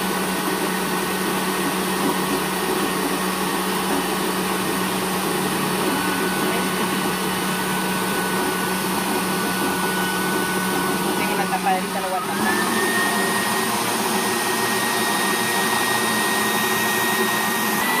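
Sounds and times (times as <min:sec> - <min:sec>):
blender grinding coffee beans: 0:00.0 - 0:18.0.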